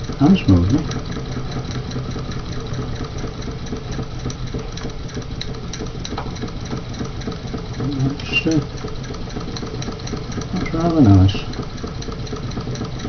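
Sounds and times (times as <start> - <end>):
toy steam engine running: 0.0 - 13.0.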